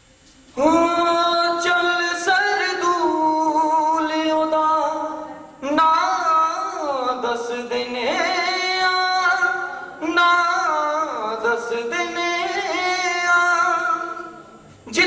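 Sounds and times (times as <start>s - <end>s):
man singing into a microphone: 0.6s - 15.0s.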